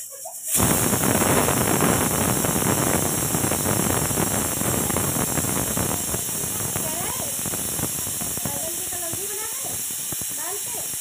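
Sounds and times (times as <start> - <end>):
loud rushing hiss: 0.4 - 11.0.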